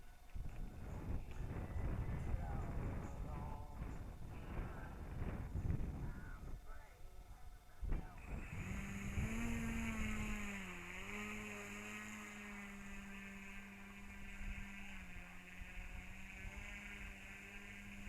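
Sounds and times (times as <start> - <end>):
electric motor and propeller whine: 0.0 - 18.0
wind rumble on microphone: 0.0 - 18.0.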